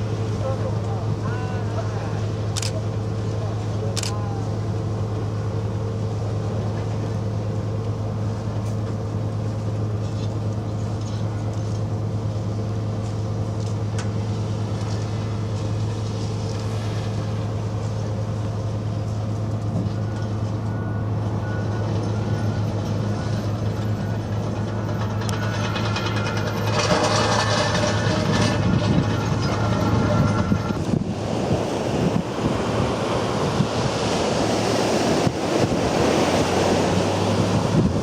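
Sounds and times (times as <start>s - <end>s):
vehicle engine droning: 0.0s - 38.0s.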